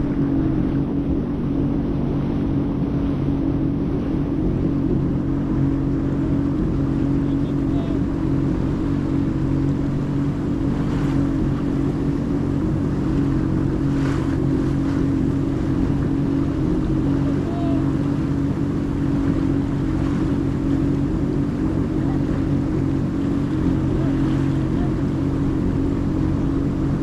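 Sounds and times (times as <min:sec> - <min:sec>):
jet ski engine running: 0:00.0 - 0:27.0
water noise: 0:00.0 - 0:27.0.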